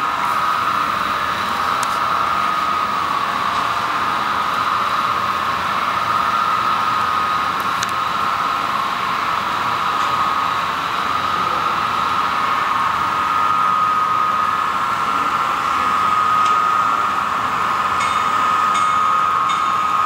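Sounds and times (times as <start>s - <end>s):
model trains whirring: 0.0s - 20.0s.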